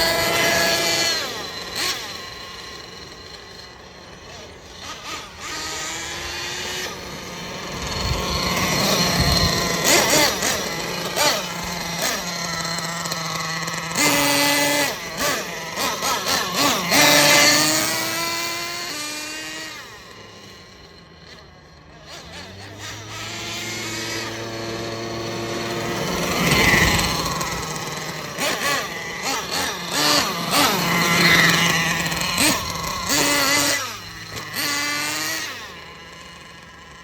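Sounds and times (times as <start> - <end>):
rc truck engine revving: 0.0 - 37.0.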